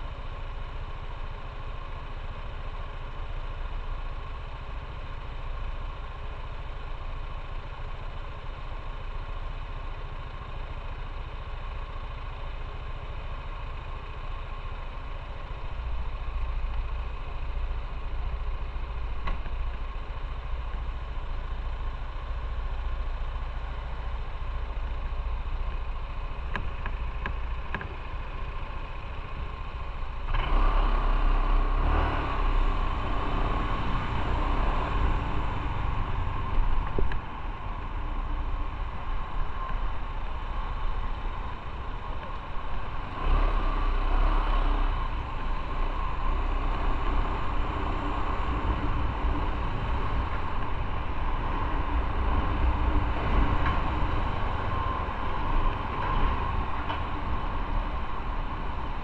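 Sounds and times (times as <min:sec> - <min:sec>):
motorcycle engine running: 0:00.0 - 0:59.0
road noise: 0:00.0 - 0:59.0.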